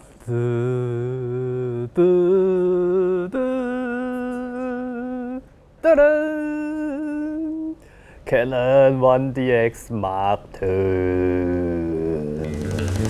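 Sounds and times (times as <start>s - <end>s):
man singing long held notes: 0.2s - 13.0s.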